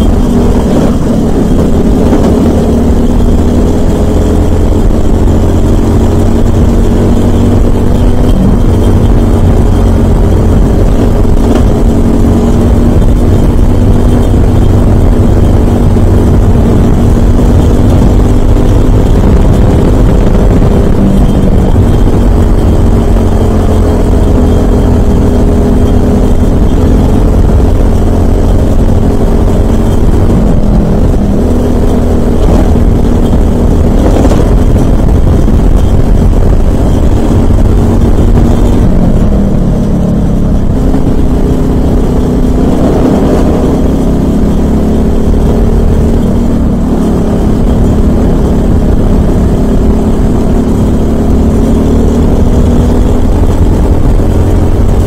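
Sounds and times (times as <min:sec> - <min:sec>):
heavy low rumble: 0:00.0 - 0:55.0
kart engine running hard: 0:00.0 - 0:55.0.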